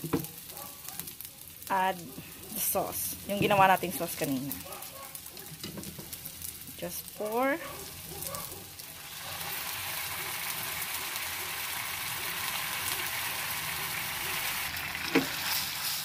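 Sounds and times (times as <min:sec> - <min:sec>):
sauce sizzling in hot pan: 0:00.0 - 0:16.0.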